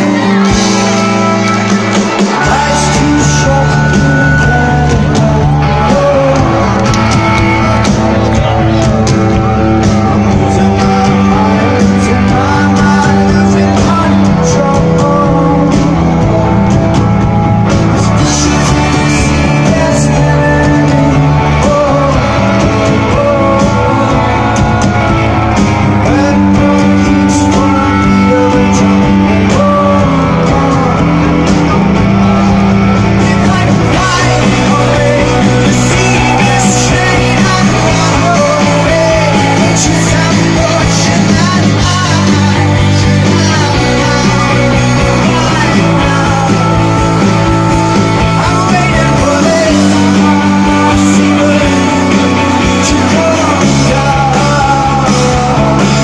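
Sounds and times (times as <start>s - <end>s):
lead singer's voice: 0.0s - 56.0s
live rock band playing: 0.0s - 56.0s.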